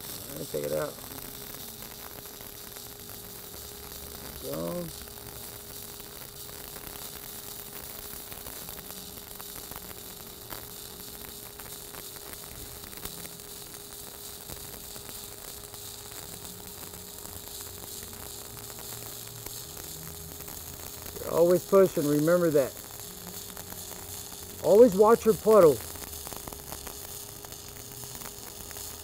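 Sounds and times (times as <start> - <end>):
steady hum: 0.0 - 29.0
welding arc crackling hiss: 0.0 - 29.0.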